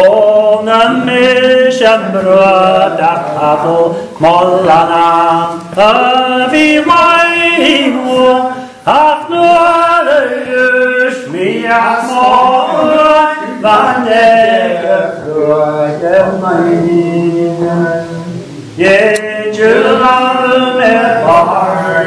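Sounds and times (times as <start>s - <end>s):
man singing unaccompanied: 0.0s - 22.0s.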